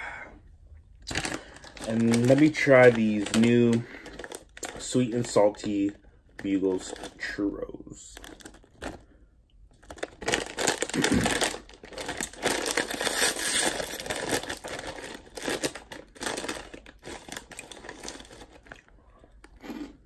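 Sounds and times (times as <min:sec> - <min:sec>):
plastic snack bag crinkling: 0:01.0 - 0:20.0.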